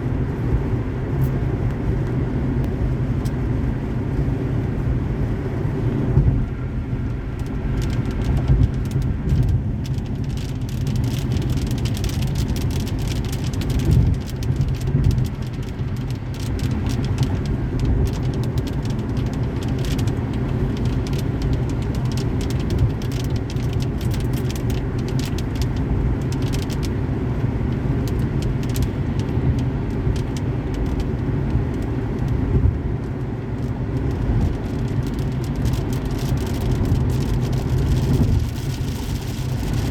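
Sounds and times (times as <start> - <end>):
road and engine rumble: 0.0 - 39.9
raindrops ticking on car: 0.3 - 39.9.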